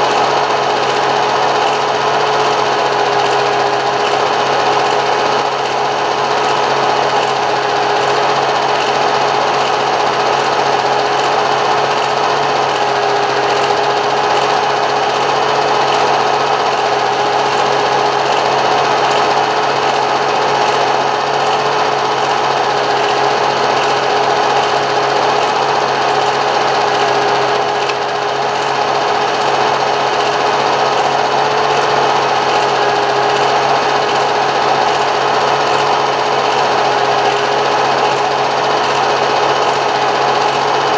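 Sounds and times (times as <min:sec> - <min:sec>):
film projector whirring and clattering: 0:00.0 - 0:40.9.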